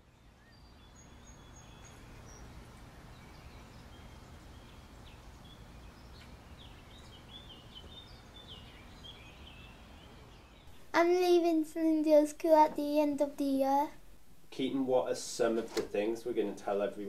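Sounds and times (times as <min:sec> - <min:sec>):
birds chirping: 0:00.0 - 0:13.8
low background noise: 0:00.0 - 0:17.0.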